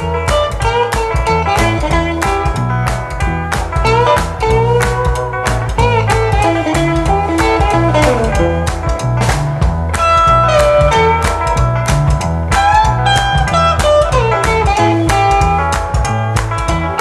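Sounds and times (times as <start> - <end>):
bass and steady beat: 0.0 - 17.0
blues-rock guitar solo: 0.0 - 17.0.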